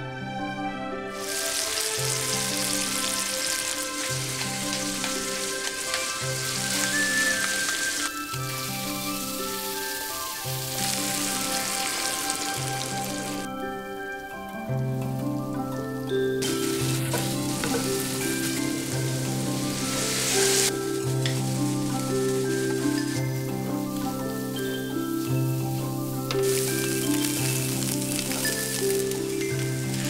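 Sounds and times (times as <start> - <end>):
background music: 0.0 - 30.0
meat sizzling in a hot pan: 1.2 - 30.0.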